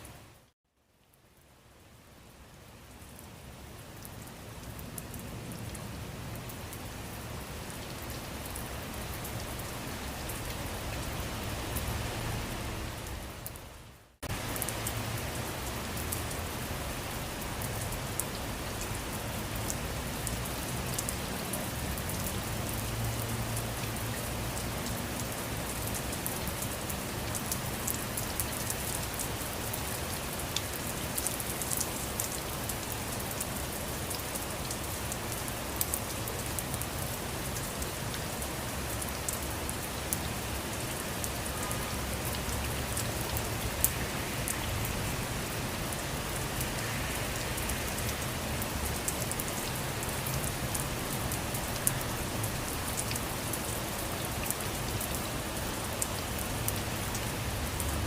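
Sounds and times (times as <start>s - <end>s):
rain falling: 0.0s - 58.0s
raindrops ticking on a surface: 0.1s - 58.0s.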